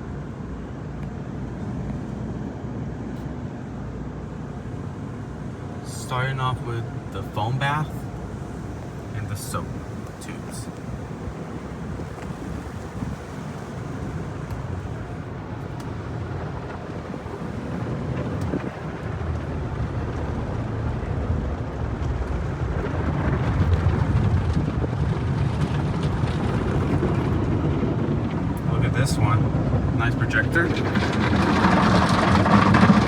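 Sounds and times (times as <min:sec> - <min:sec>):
car wash spraying water: 0:00.0 - 0:33.0.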